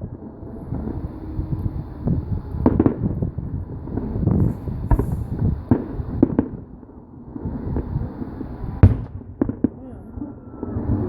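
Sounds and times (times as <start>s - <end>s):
low rumble of bursting shells: 0.0s - 11.0s
fireworks bangs and cracks: 2.0s - 11.0s.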